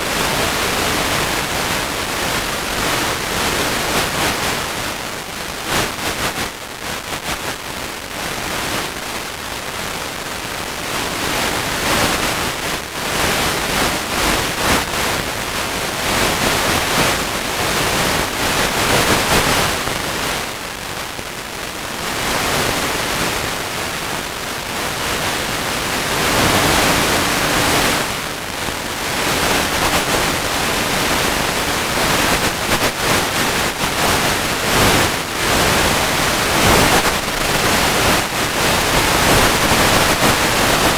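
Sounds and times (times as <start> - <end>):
rushing static hiss: 0.0 - 40.9.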